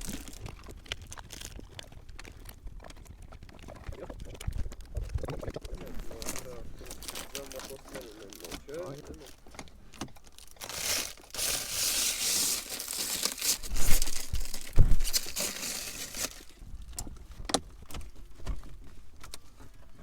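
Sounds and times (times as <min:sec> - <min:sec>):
crinkling and tearing: 0:00.0 - 0:20.0.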